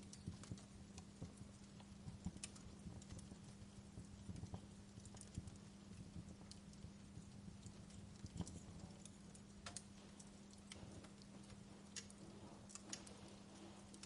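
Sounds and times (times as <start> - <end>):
low steady hum: 0.0 - 14.0
wood fire crackling: 0.0 - 14.0.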